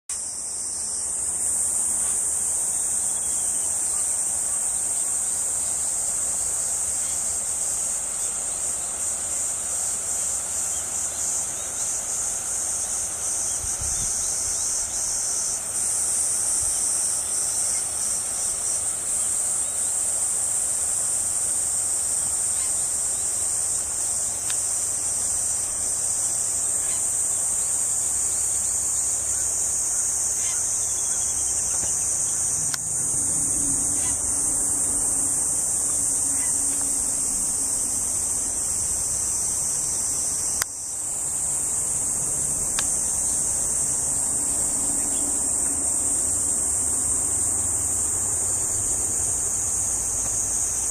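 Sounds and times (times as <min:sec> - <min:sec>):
insect chorus shrill drone: 0:00.1 - 0:50.9.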